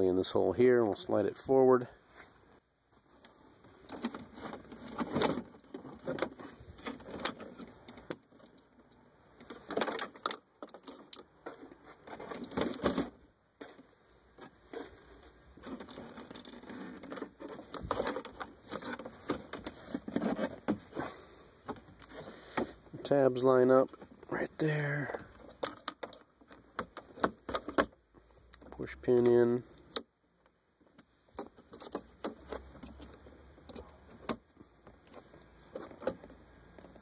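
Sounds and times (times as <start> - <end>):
plastic parts rustling and clicking: 3.0 - 37.0.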